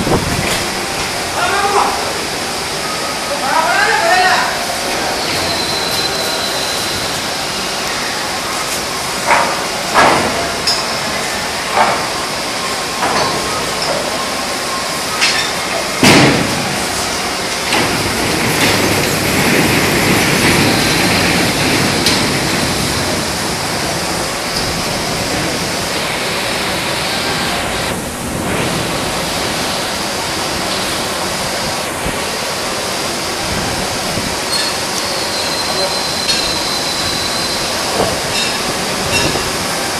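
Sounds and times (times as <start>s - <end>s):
melting furnace noise: 0.0s - 39.9s.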